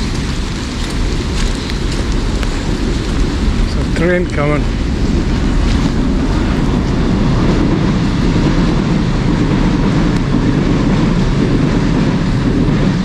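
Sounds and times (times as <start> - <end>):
train passing rumble: 0.0 - 13.0.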